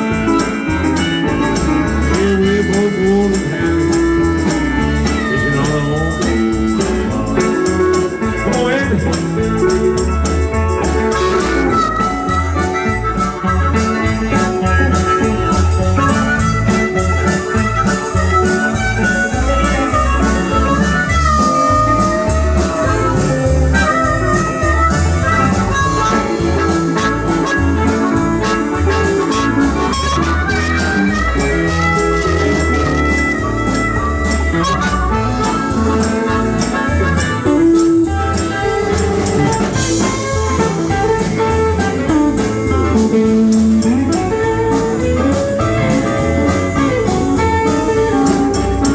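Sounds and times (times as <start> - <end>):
drum kit beat: 0.0 - 48.9
guitar: 0.0 - 48.9
lead melody: 0.0 - 48.9.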